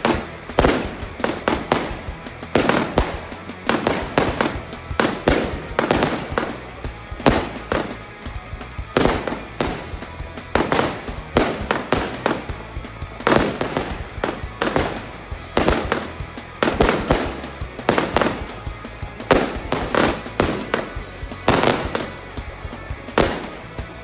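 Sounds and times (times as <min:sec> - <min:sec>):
fireworks banging: 0:00.0 - 0:24.0
rock music: 0:00.0 - 0:24.0.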